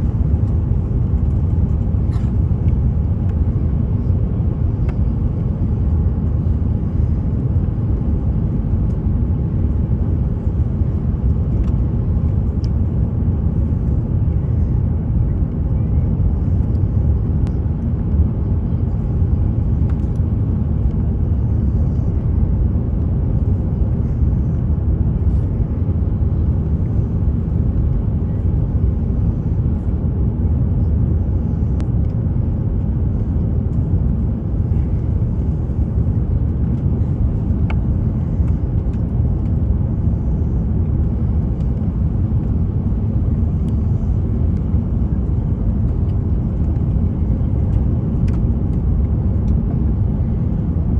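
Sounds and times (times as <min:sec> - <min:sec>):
aircraft cabin engine rumble: 0:00.0 - 0:50.9.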